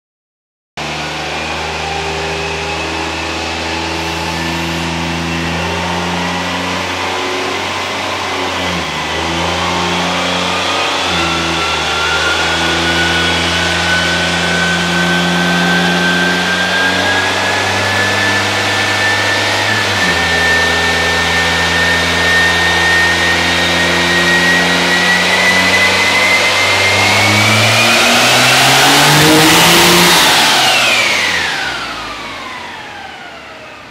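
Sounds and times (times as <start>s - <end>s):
diesel engine at full throttle: 0.8s - 33.9s
rising whine: 0.8s - 33.9s.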